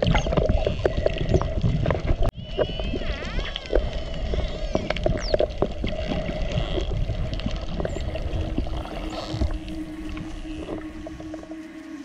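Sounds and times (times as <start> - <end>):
boat engine hum underwater: 0.0 - 12.0
dolphins clicking: 0.0 - 12.0.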